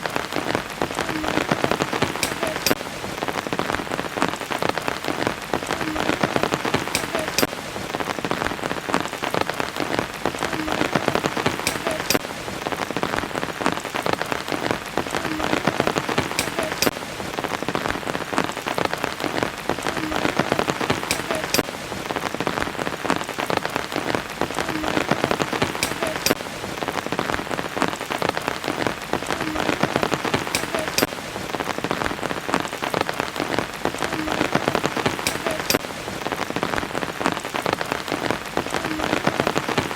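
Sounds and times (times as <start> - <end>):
raindrops ticking: 0.0 - 39.9
steady rain falling: 0.0 - 39.9.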